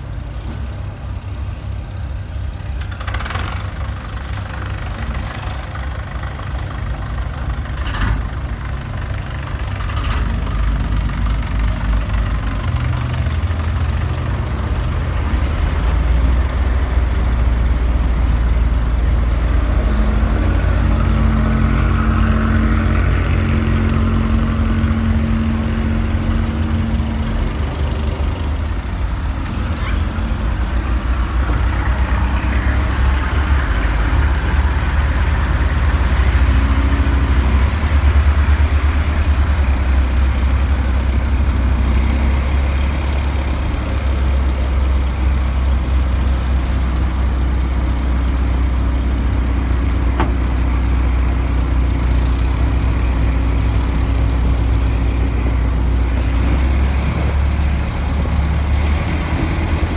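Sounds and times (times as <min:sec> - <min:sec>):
boat diesel engine rumbling: 0:00.0 - 0:59.9.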